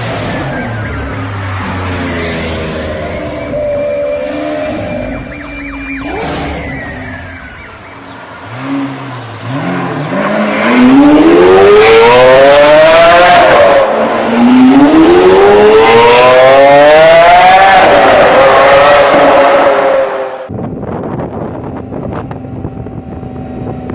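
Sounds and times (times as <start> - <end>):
supercar accelerating hard: 0.0 - 20.5.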